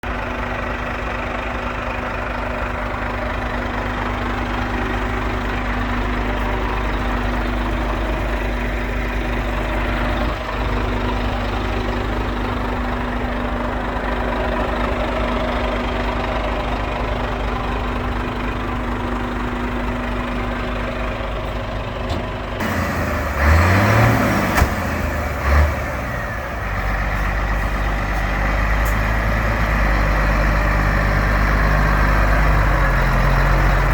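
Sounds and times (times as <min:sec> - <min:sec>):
diesel truck engine idling: 0:00.0 - 0:33.9
low engine bursts: 0:00.1 - 0:33.9.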